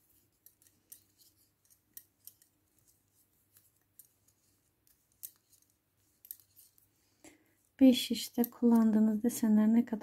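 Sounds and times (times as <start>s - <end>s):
knitting needles clicking: 0.0s - 9.3s.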